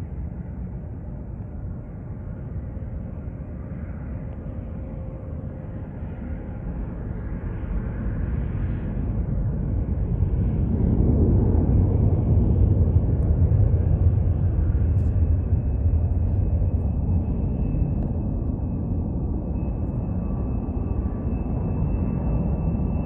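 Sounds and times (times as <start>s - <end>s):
faint high whine: 0.0s - 10.9s, 11.5s - 23.0s
jet engine rumble: 0.0s - 23.0s.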